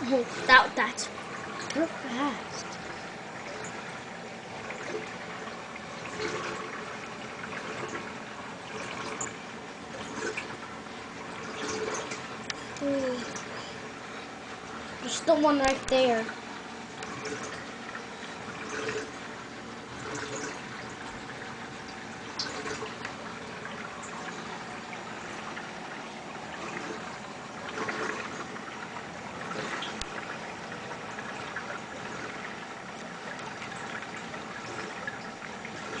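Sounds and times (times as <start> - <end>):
aquarium water trickling: 0.0 - 36.0.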